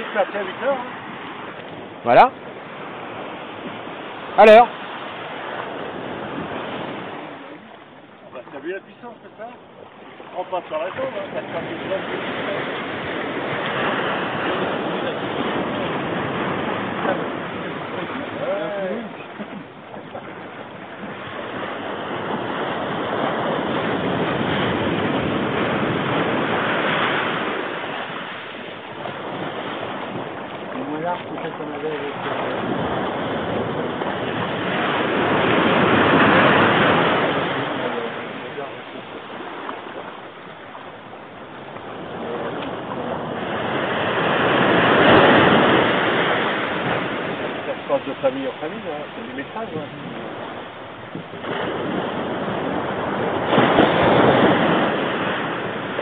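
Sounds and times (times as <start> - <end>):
sea surf breaking on beach: 0.0 - 56.0.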